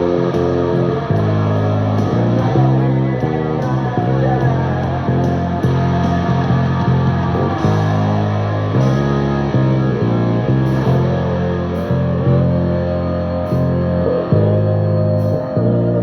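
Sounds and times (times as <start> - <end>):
distorted electric guitar: 0.0 - 16.0
electric bass playing rock line: 0.0 - 16.0.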